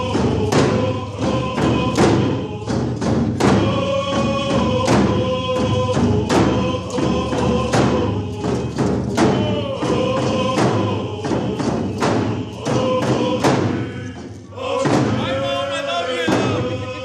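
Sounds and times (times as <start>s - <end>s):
hand drums beating: 0.0s - 15.4s, 16.2s - 16.8s
group singing in unison: 0.0s - 17.0s.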